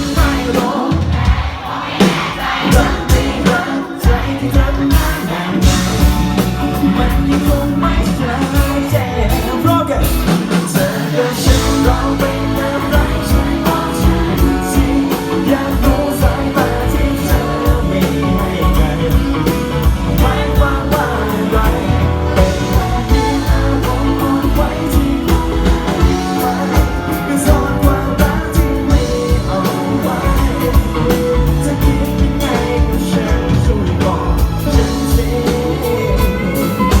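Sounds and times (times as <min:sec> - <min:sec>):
person singing: 0:00.0 - 0:01.5, 0:02.6 - 0:37.0
drum beat: 0:00.0 - 0:37.0
live rock band playing: 0:00.0 - 0:37.0.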